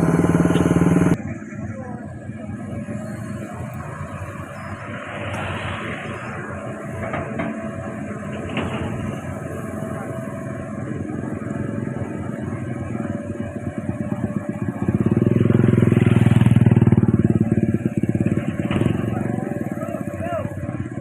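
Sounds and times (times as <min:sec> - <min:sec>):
excavator diesel engine revving: 0:00.0 - 0:01.5, 0:02.2 - 0:21.0.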